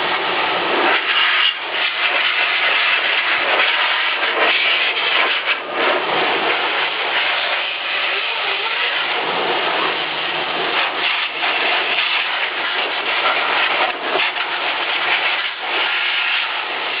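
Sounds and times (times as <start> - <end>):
vacuum cleaner blowing air: 0.0 - 17.0.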